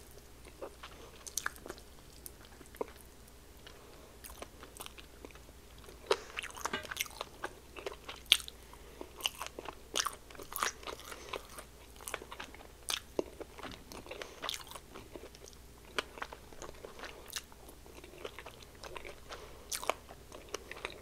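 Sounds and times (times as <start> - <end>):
chewing crispy fried chicken: 0.0 - 21.0.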